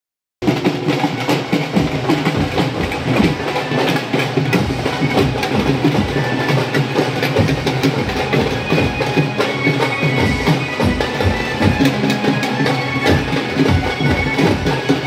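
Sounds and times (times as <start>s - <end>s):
steady drum beats: 0.4s - 15.0s.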